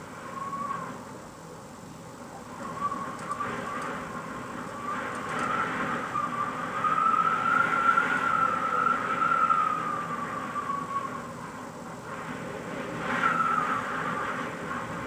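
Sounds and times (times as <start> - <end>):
low rush of wind: 0.0 - 15.0
wind whistling through window: 0.0 - 15.0.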